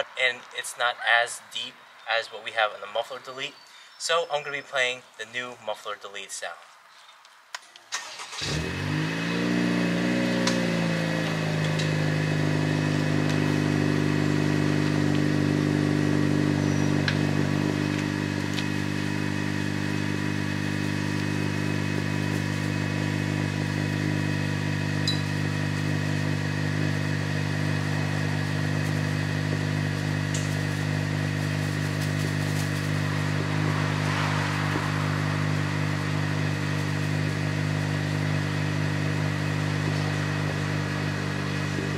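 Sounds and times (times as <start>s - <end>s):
car engine cranking and idling: 7.9s - 41.9s.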